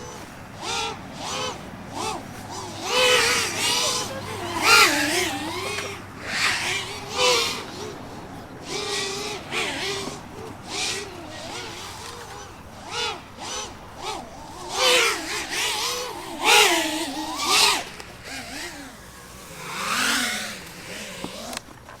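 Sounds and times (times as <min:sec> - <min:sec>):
drone motors buzzing: 0:00.0 - 0:22.0.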